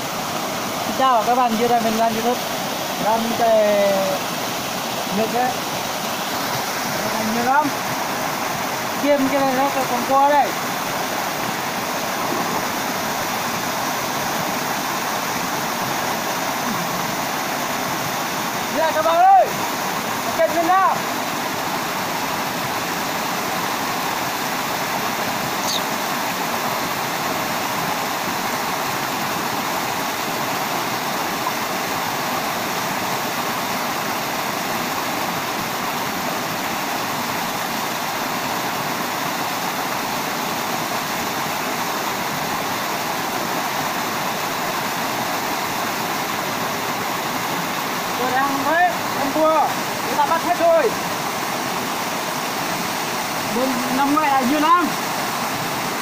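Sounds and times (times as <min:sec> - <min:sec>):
waterfall rushing into a pool: 0:00.0 - 0:56.0.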